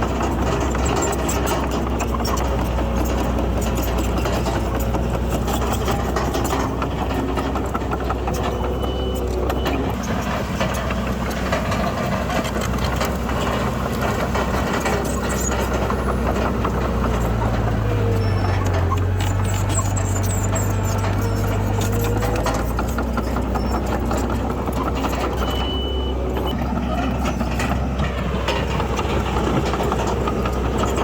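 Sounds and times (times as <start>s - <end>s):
diesel machinery engine drone: 0.0s - 31.0s.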